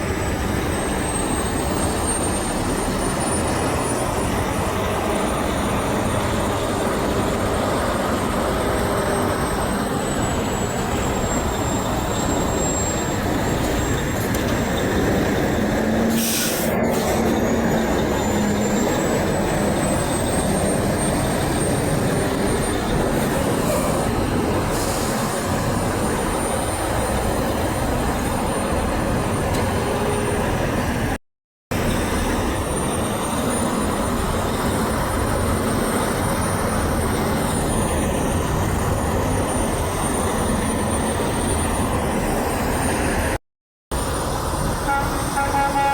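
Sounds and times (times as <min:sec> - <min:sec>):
heavy road traffic rumble: 0:00.0 - 0:45.9
trucks rolling past: 0:00.0 - 0:45.9.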